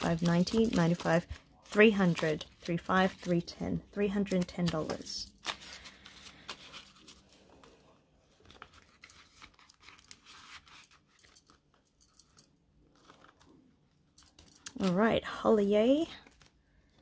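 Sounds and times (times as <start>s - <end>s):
banknotes and plastic crinkling: 0.0s - 15.2s, 15.8s - 17.0s.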